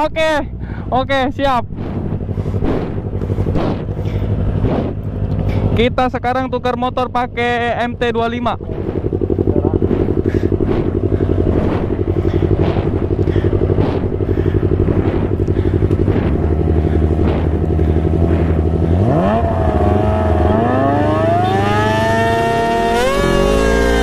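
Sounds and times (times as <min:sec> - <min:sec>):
motorcycle engine revving: 0:00.0 - 0:24.0
motorcycle engines idling: 0:00.0 - 0:24.0.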